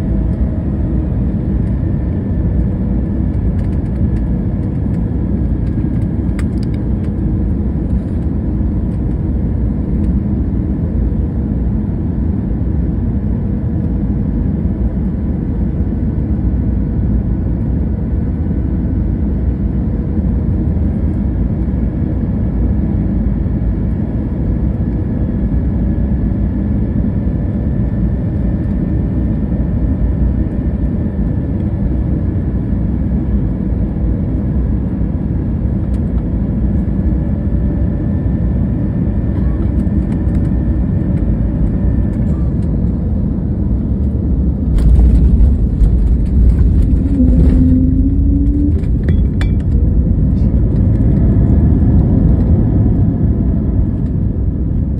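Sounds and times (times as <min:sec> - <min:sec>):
faint steady whine: 0:00.0 - 0:54.9
jet engine and air roar: 0:00.0 - 0:54.9.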